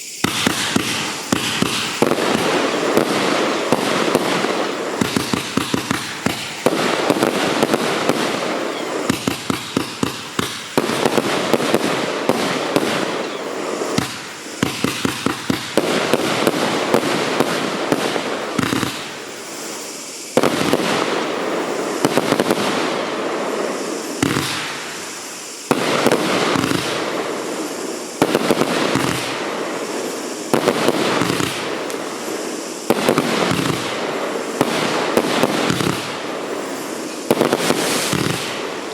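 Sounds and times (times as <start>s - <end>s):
firework bangs: 0.0s - 38.9s
firework crackling: 0.0s - 38.9s.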